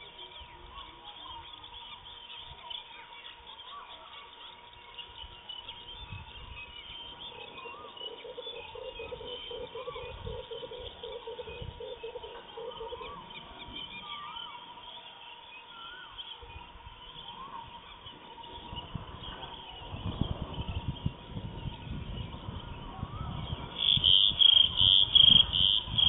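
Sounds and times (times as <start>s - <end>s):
faint steady high tone: 0.0s - 23.7s
birds calling and chirping: 0.0s - 26.0s
low repeated bird call: 0.0s - 26.0s.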